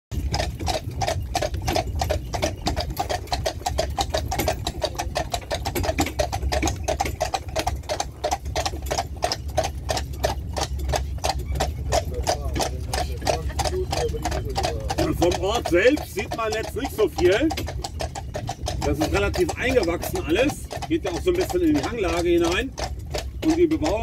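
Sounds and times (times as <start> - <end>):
horse hooves clip-clopping on pavement: 0.1 - 24.0.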